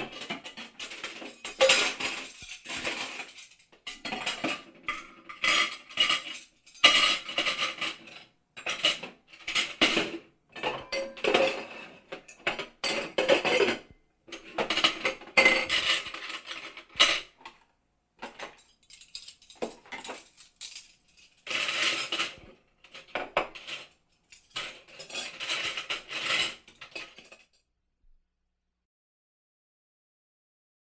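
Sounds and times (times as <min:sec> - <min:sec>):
metal utensils and pots clattering: 0:00.0 - 0:27.6.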